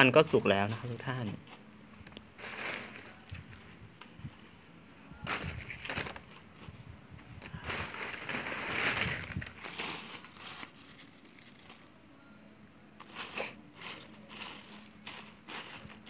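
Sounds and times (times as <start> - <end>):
leaves rustling and crinkling: 0.0 - 12.1, 12.9 - 16.0.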